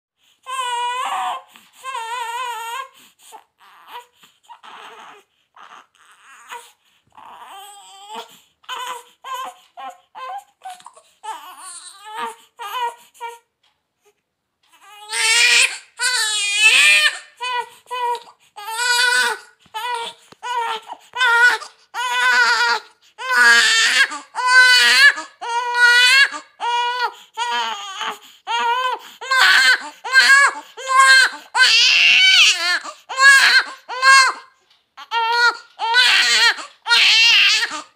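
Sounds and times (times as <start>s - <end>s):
newborn baby crying: 0.4s - 37.9s.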